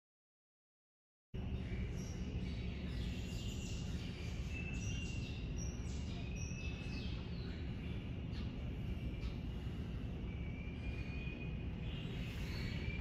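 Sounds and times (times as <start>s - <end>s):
low background rumble: 1.4s - 13.0s
small birds chirping: 1.4s - 13.0s.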